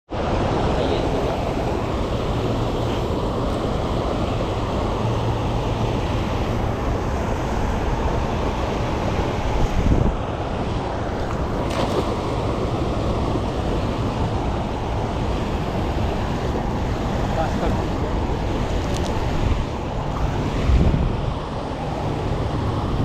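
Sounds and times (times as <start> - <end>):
creek water rushing: 0.1 - 23.0.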